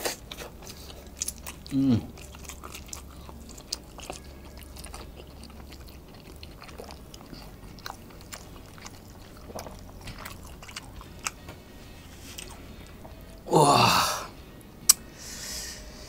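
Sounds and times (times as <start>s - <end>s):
person chewing close to microphone: 0.0s - 13.0s
steady low hum: 0.0s - 16.0s.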